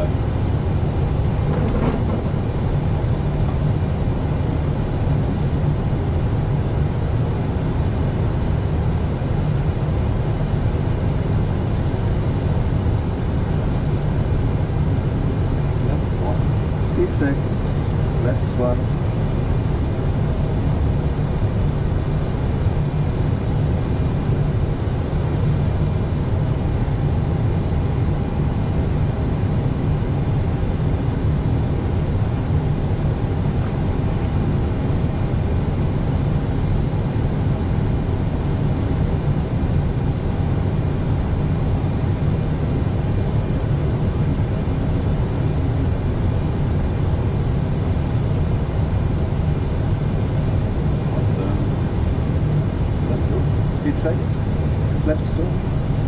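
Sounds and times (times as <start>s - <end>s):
deep rumble of airflow and engines: 0.0s - 56.0s.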